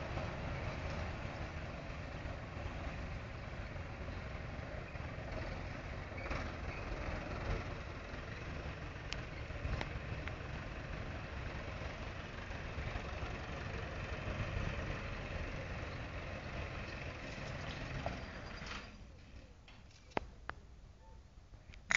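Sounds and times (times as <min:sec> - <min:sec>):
tractor engine idling: 0:00.0 - 0:20.6.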